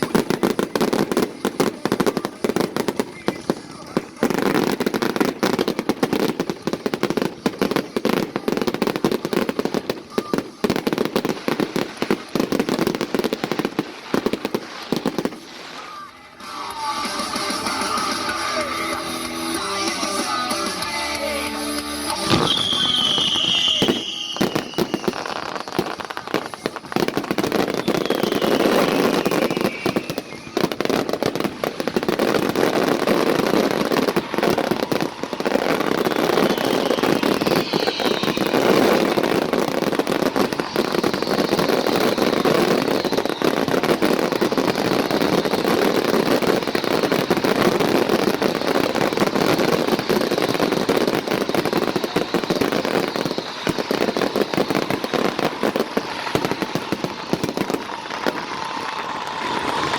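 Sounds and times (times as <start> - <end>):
falling firework whistles: 0.0 - 59.9
fireworks bangs and crackling: 0.0 - 59.9.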